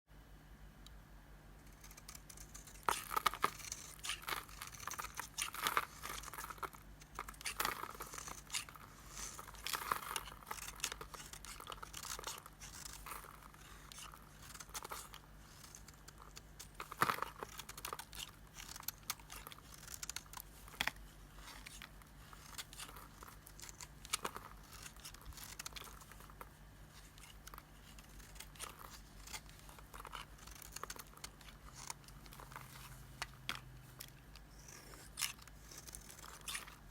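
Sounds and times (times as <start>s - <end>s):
blade shaving dry soap: 1.7s - 36.9s.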